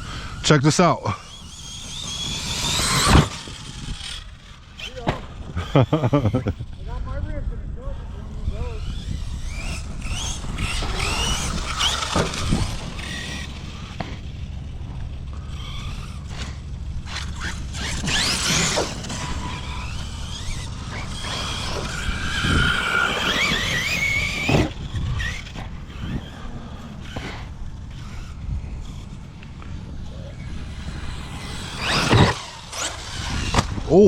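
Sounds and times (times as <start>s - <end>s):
electric motors whining: 0.0s - 34.0s
trucks thumping on ground: 1.1s - 6.8s, 8.8s - 33.9s.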